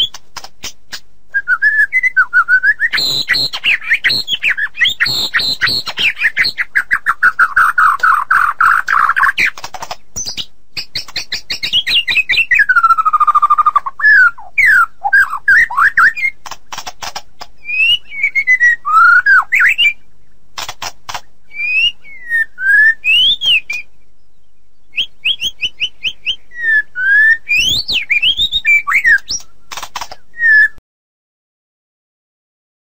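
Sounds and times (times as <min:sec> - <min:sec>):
songbird singing: 0:00.0 - 0:30.8.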